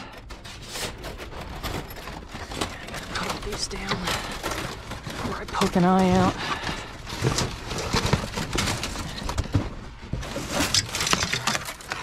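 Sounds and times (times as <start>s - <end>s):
scrap knocking and rustling: 0.0s - 12.0s.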